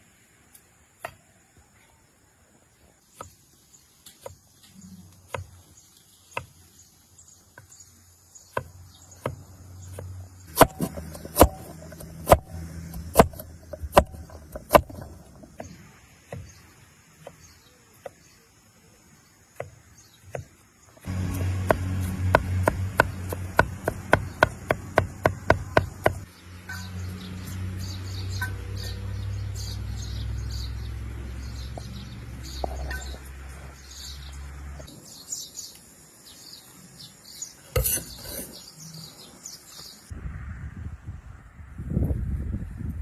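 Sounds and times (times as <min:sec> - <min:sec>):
birds chirping: 0:00.4 - 0:40.1.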